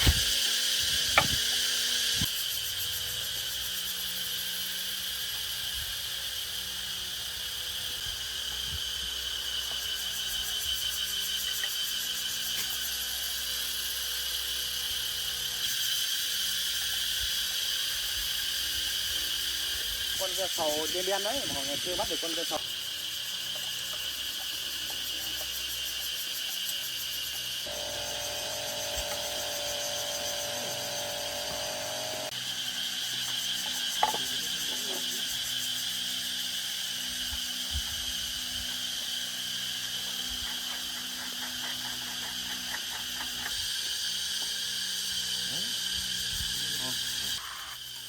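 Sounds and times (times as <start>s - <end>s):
cicadas buzzing: 0.0s - 48.0s.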